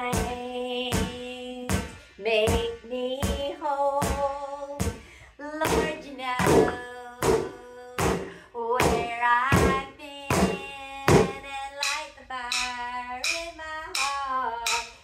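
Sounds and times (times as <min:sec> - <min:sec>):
drumsticks beating exercise balls: 0:00.0 - 0:15.0.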